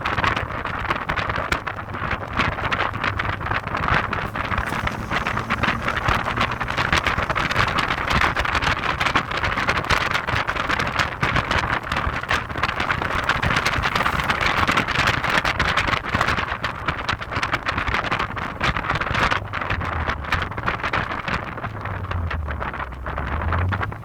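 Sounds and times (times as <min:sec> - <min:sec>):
wind buffeting microphone: 0:00.0 - 0:24.0
car engine drone: 0:00.1 - 0:24.0.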